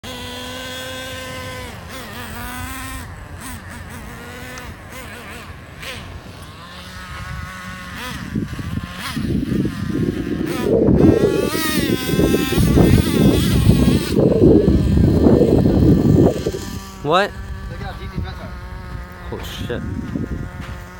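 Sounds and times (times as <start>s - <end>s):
small nitro engine revving: 0.0s - 20.9s.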